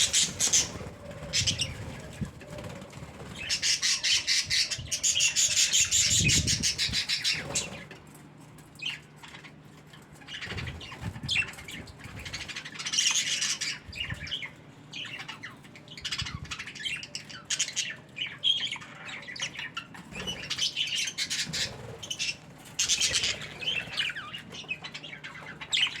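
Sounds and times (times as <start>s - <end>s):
budgerigars chattering and squawking: 0.0s - 8.0s, 8.8s - 26.0s.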